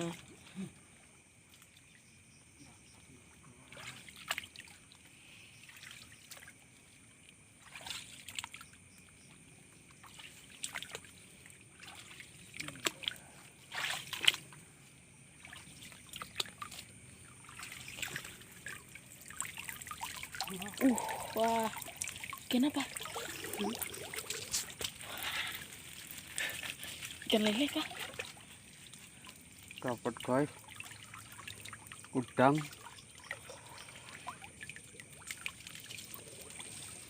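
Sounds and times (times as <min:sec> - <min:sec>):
water splashing and trickling: 0:00.0 - 0:37.0.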